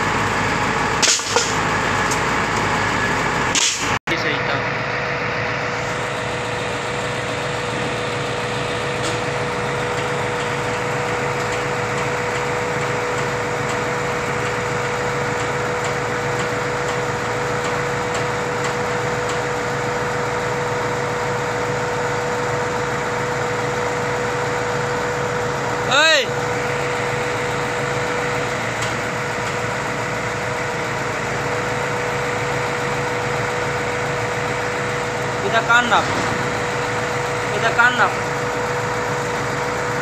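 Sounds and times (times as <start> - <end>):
concrete pump engine running: 0.0 - 40.0
hydraulic whine: 0.0 - 40.0.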